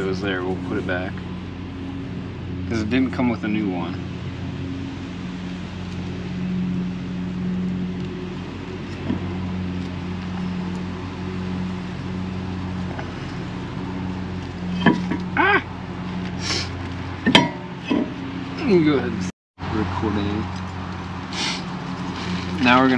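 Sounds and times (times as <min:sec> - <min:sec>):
motor humming: 0:00.0 - 0:19.3.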